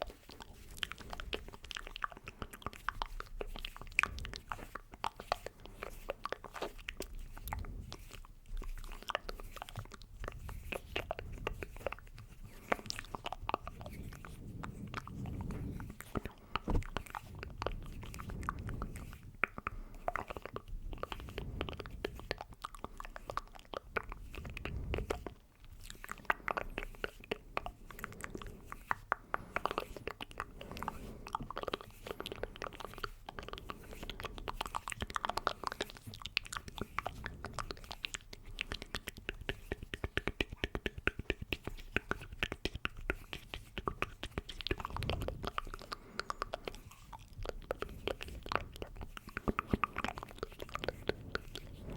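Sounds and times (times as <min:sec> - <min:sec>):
wet mouth clicks and smacks: 0:00.0 - 0:51.9.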